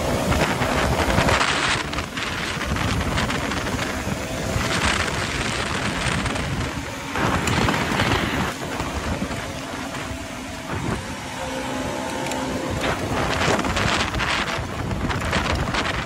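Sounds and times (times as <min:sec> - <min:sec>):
motorcycle engines: 0:00.0 - 0:16.0
wind rushing over microphone: 0:00.0 - 0:16.0.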